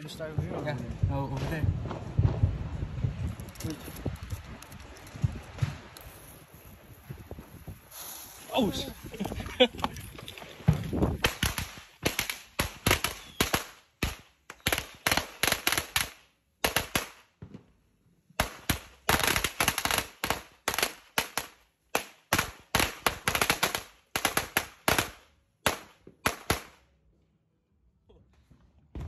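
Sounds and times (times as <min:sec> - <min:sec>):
firecrackers banging on pavement: 0:00.0 - 0:08.2, 0:10.6 - 0:17.8, 0:18.4 - 0:26.8.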